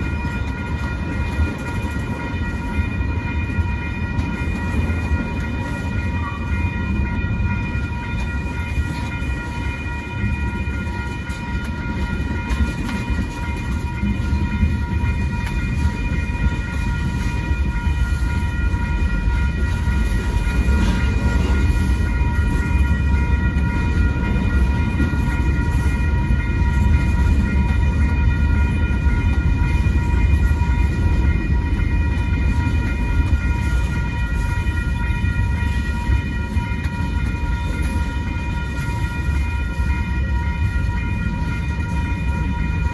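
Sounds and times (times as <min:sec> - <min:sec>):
crossing warning bell ringing: 0:00.0 - 0:42.9
freight train rumbling: 0:00.0 - 0:42.9.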